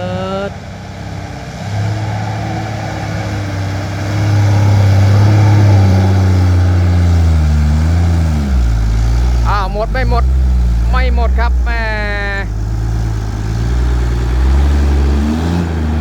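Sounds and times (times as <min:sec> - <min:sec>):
truck diesel engine labouring: 0:00.0 - 0:16.0.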